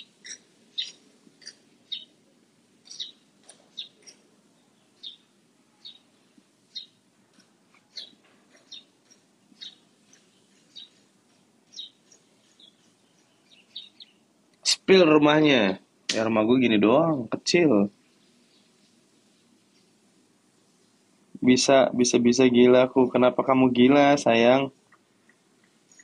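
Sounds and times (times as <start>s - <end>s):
birds chirping: 0.0s - 16.8s, 17.6s - 26.0s.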